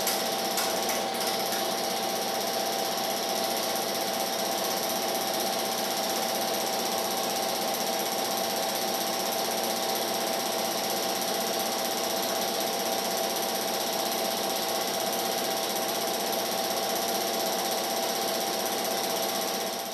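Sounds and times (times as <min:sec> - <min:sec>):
film projector running: 0:00.0 - 0:19.9.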